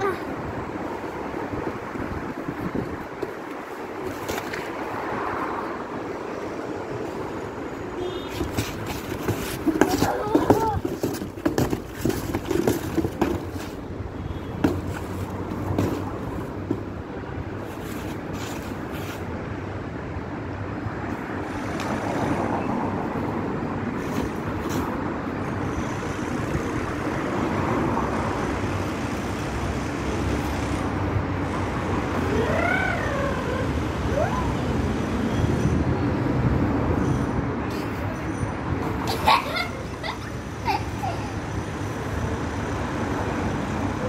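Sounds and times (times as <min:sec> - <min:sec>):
city traffic hum: 0:00.0 - 0:44.0.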